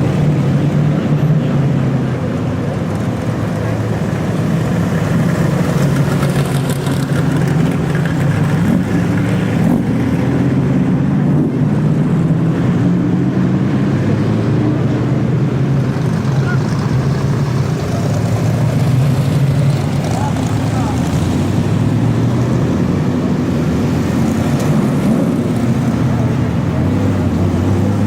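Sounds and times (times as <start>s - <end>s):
car engines driving past: 0.0s - 28.0s.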